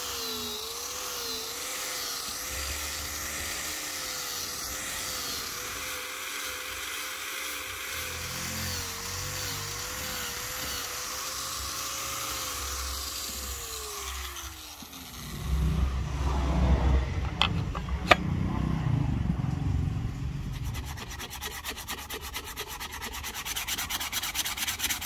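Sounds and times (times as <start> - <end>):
electric power tool running: 0.0 - 18.8, 20.4 - 25.0.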